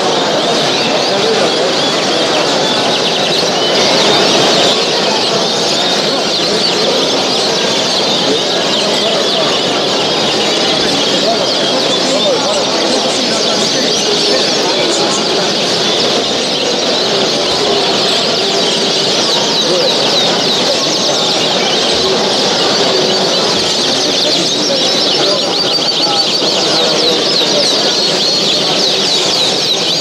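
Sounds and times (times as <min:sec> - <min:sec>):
birds chirping and singing: 0:00.0 - 0:30.0.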